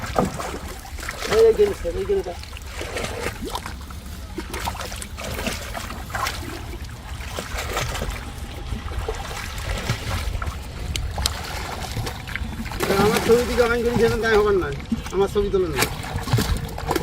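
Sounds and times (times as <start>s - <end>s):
low rumble: 0.0s - 17.0s
water trickling and splashing: 0.0s - 17.0s.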